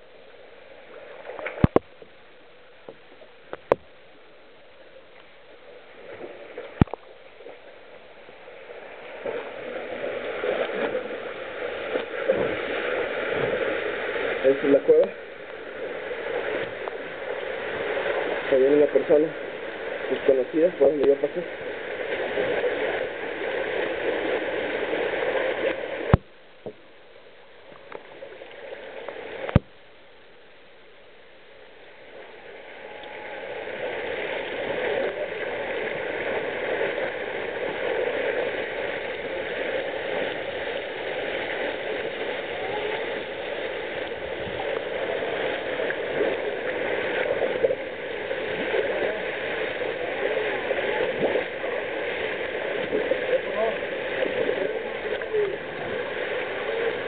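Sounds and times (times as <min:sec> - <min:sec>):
water splashing around swimmer: 0:05.9 - 0:26.7, 0:32.0 - 0:57.0.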